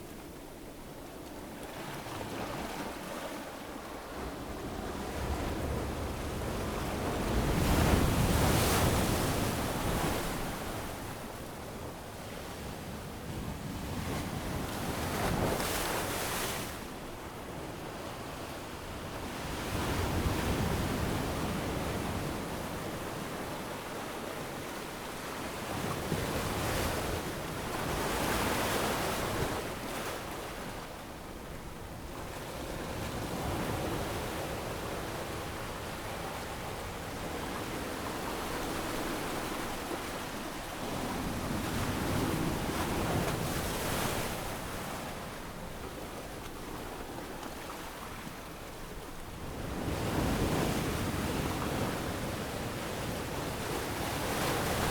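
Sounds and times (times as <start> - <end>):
ocean waves breaking on a beach: 0.0 - 54.9
wind: 0.0 - 54.9.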